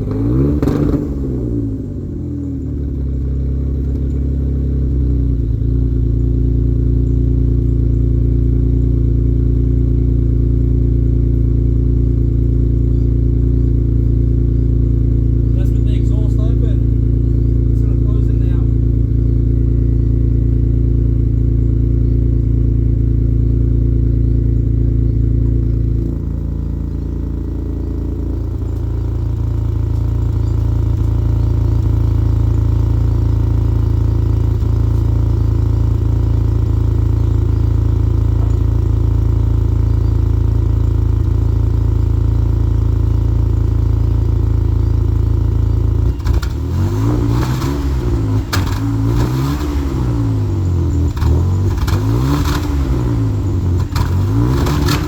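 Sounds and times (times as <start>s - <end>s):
vee eight engine idling and revving: 0.0s - 55.0s.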